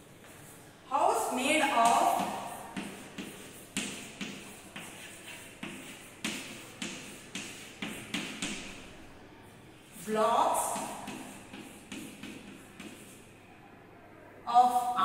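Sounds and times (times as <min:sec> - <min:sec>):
chalk tapping and scraping on blackboard: 0:00.1 - 0:09.0, 0:09.8 - 0:13.3.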